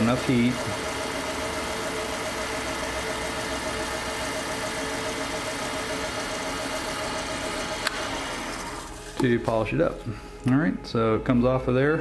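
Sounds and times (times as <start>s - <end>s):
paper towel rubbing spinning wood: 0.0s - 10.1s
wood lathe running: 0.0s - 12.0s.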